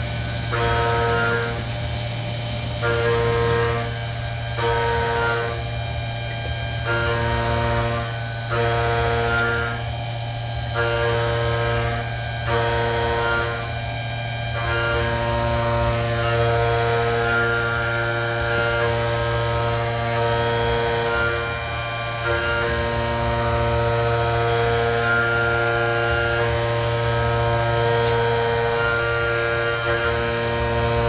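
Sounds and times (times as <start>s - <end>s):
milling machine whining tones: 0.0s - 31.0s
motor hum: 0.0s - 31.0s.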